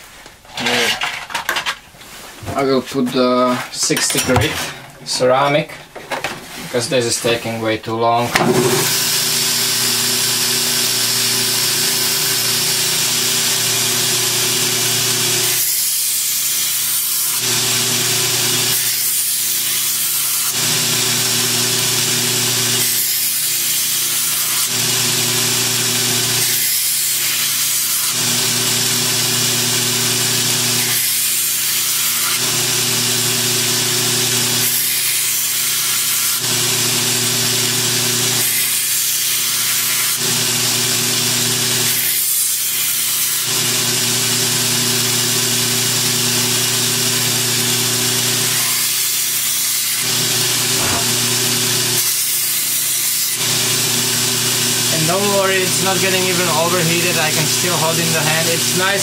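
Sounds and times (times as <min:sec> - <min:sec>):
belt grinder motor humming: 0:08.4 - 0:59.0.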